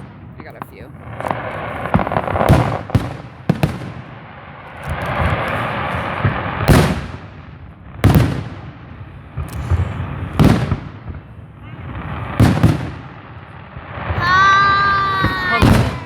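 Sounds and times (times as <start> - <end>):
fireworks bangs and booms: 0.0 - 16.0.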